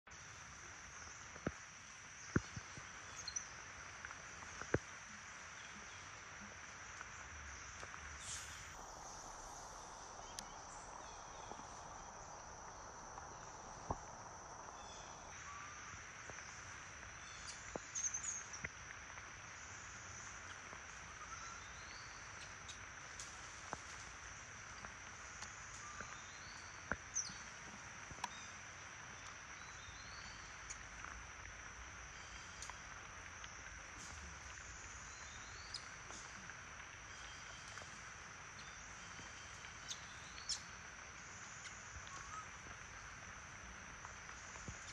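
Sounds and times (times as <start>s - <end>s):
rain hiss: 0.1s - 44.9s.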